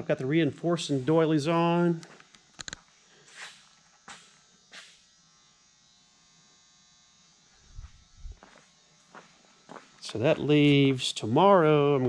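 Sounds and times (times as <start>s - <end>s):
faint electrical buzz: 0.0s - 12.0s.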